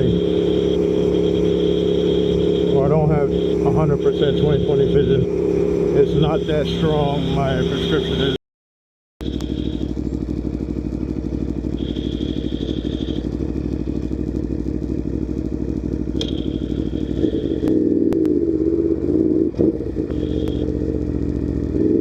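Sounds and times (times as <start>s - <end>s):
motorcycle engine running: 0.0s - 8.4s, 9.2s - 22.0s.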